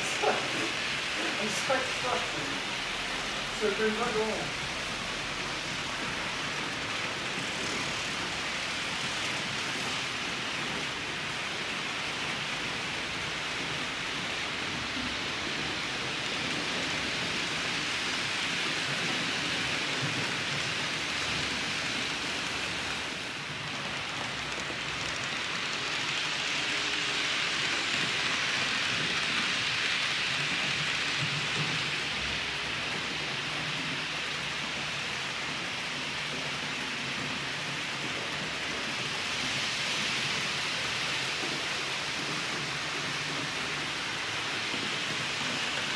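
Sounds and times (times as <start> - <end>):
model train wagons rolling: 0.0 - 45.9.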